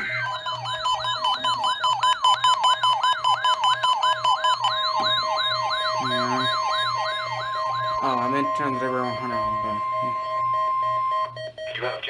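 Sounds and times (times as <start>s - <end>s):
steady alert tone: 0.0s - 11.4s
repeating beep: 0.0s - 11.6s
warbling siren: 0.0s - 11.7s.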